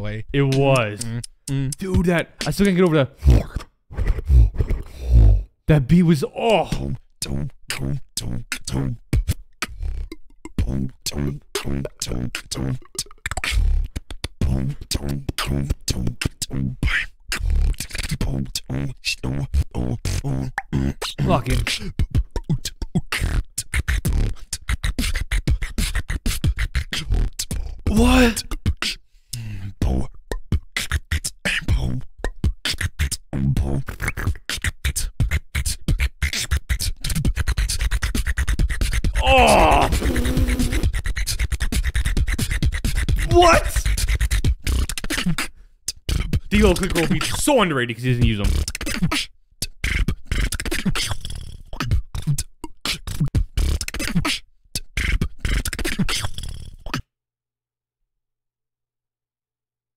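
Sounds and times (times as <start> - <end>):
beatboxing: 0.0 - 57.1.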